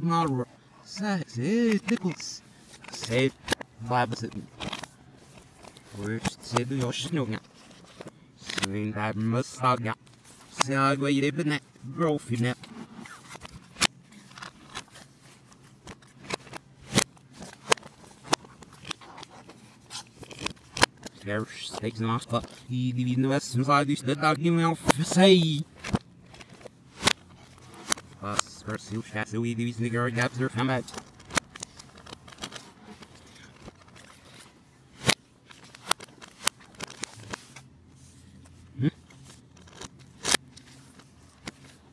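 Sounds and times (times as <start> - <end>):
plastic cases clicking and scraping: 0.2 - 41.9.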